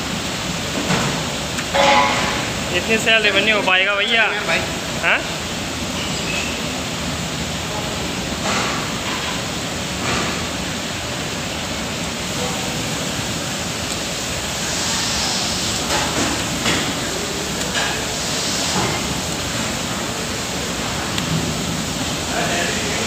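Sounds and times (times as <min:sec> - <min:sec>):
deep-frying in hot oil: 0:00.0 - 0:23.0.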